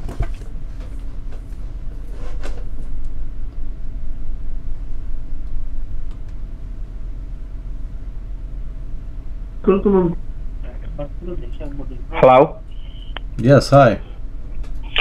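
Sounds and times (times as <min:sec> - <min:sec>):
phone line hum and hiss: 0:00.0 - 0:15.0.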